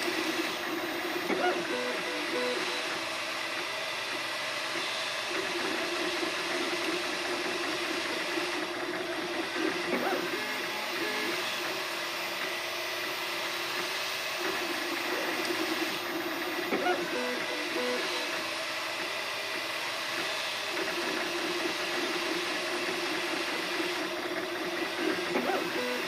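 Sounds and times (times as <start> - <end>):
stepper motors whining: 0.0 - 26.0.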